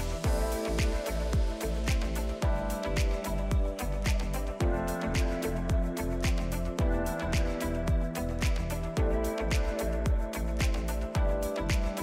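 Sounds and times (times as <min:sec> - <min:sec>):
electronic music with kick drum: 0:00.0 - 0:12.0
held synth chords: 0:00.0 - 0:12.0.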